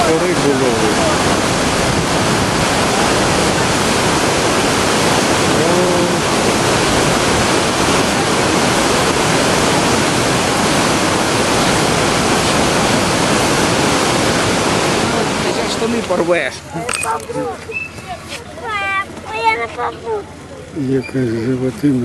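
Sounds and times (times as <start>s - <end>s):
river rushing over rocks: 0.0s - 20.4s.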